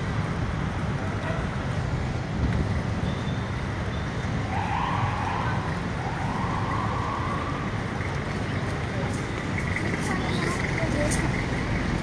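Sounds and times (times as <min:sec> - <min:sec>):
cars and motorcycles rumbling: 0:00.0 - 0:12.0.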